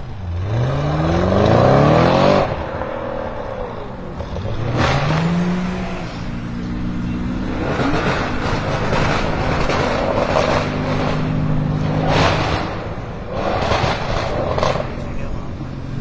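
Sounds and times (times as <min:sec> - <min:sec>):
car engine at held revs: 0:00.0 - 0:16.0.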